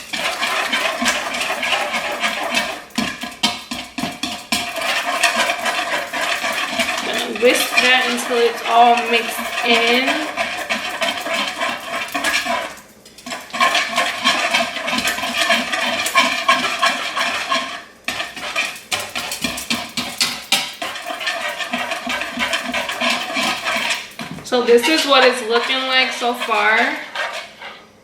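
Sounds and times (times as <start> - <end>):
whisk clinking against bowl: 0.0 - 27.7.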